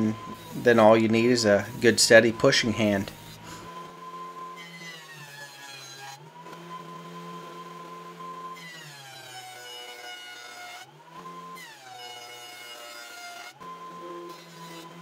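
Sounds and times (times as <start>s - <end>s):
jointer motor whine: 0.0s - 15.0s.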